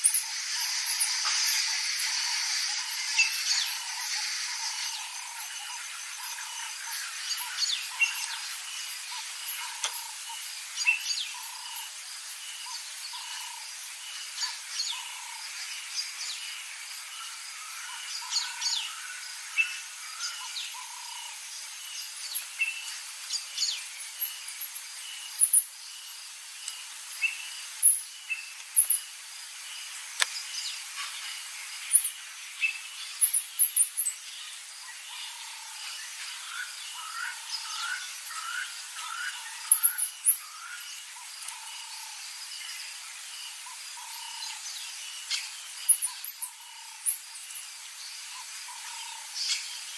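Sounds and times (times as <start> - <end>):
bird chorus: 0.0 - 49.9.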